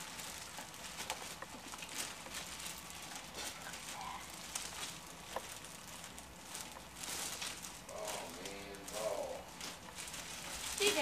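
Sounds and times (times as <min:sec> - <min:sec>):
cellophane crinkling: 0:00.0 - 0:11.0.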